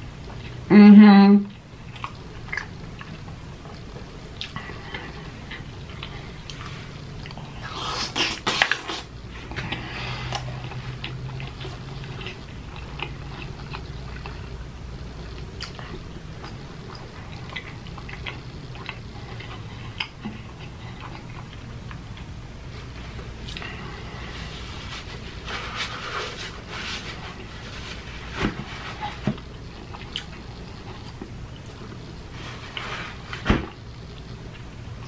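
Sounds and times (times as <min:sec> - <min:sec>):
steady low hum: 0:00.0 - 0:35.0
person chewing: 0:01.5 - 0:34.8.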